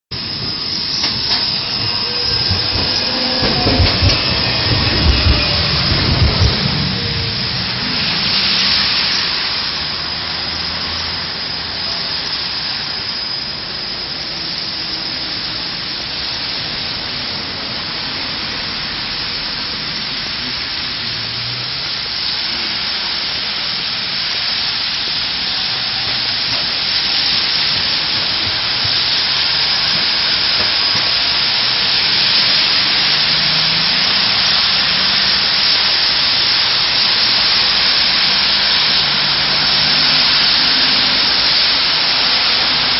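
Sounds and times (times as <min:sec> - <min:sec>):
low rumble of engines: 0:00.1 - 0:42.9
tyres hissing on wet road: 0:00.2 - 0:42.9.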